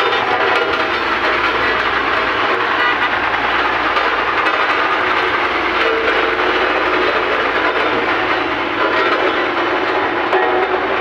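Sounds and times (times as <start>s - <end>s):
diesel machinery clatter and rumble: 0.0s - 11.0s.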